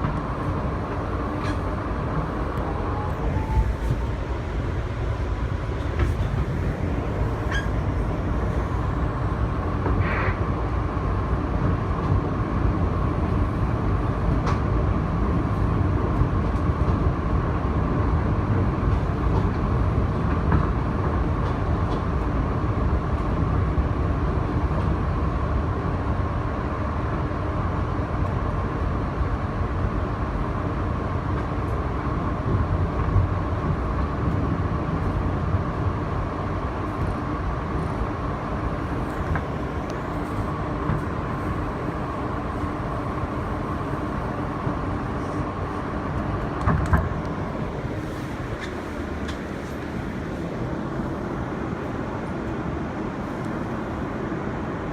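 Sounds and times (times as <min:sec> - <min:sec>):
subway wheels rumbling on rail: 0:00.0 - 0:54.9.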